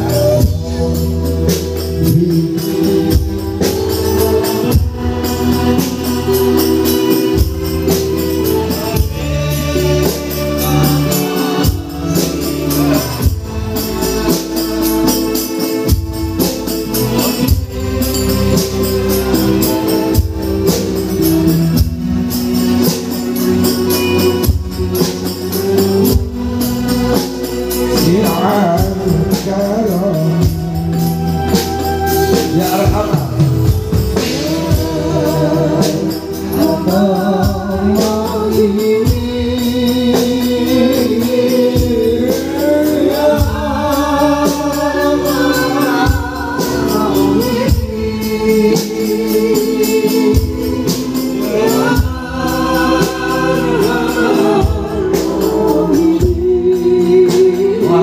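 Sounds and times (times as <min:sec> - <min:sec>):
voices singing together: 0:00.0 - 0:22.2, 0:22.8 - 0:58.0
frame drums: 0:00.0 - 0:58.0.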